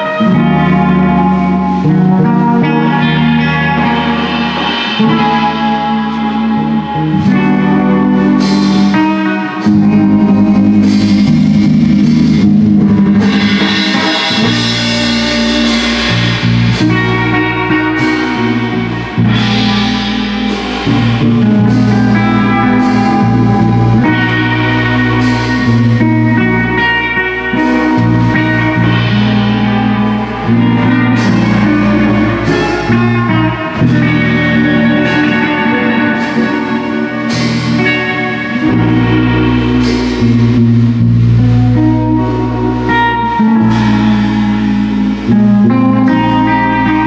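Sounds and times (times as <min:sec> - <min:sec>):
bass: 0:00.0 - 0:47.0
drum kit with cymbal hits: 0:00.0 - 0:47.0
electric guitar lines: 0:00.0 - 0:47.0.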